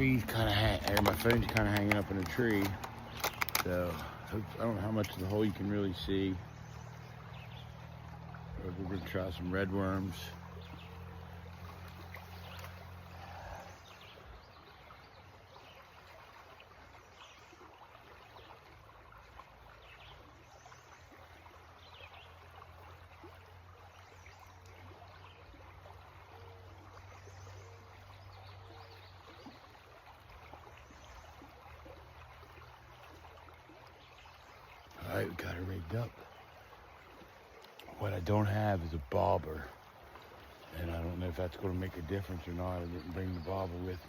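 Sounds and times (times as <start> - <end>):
creek water flowing: 0.0 - 44.0.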